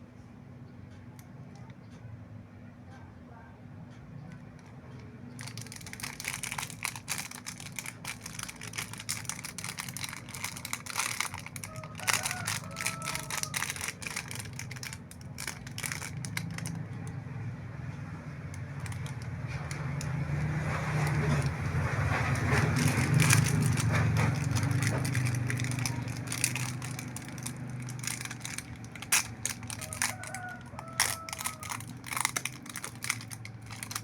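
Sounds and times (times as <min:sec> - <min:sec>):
plastic packaging crinkling: 0:05.4 - 0:17.2, 0:18.5 - 0:34.0.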